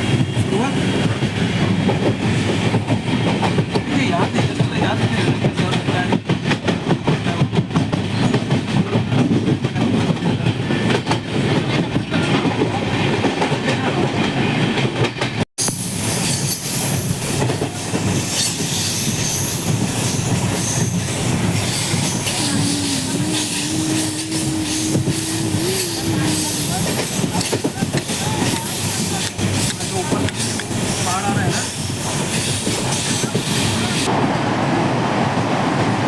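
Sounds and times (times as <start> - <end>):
train rumbling and rattling: 0.0 - 36.0.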